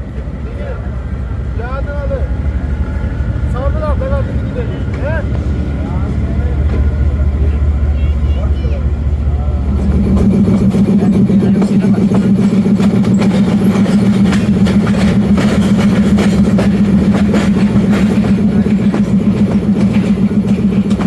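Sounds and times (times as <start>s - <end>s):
diesel locomotive engine pulsing: 0.0s - 21.0s.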